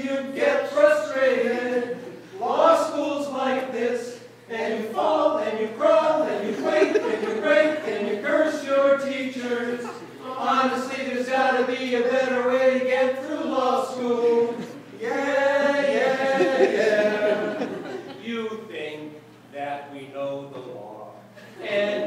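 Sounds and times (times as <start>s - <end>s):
group singing unaccompanied: 0.0s - 18.4s, 21.6s - 22.0s.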